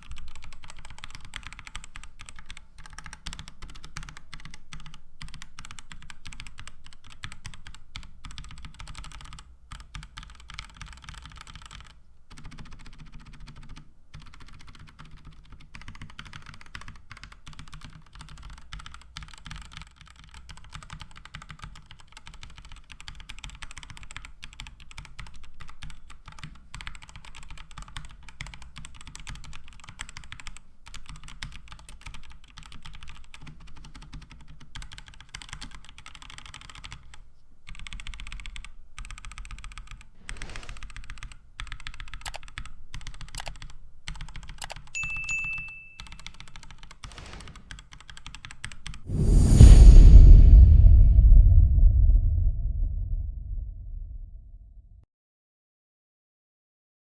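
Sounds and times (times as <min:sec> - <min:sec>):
typing on mechanical keyboard: 0:00.0 - 0:49.0.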